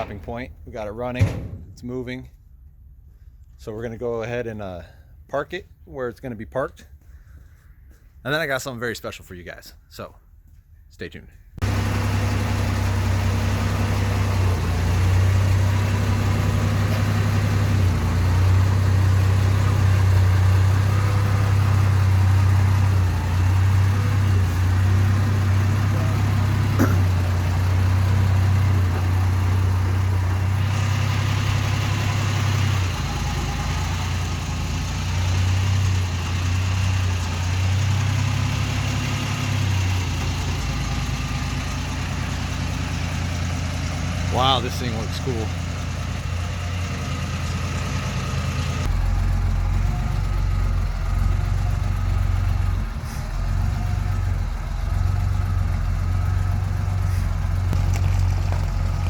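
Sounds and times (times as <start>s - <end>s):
truck engine revving: 11.6s - 59.0s.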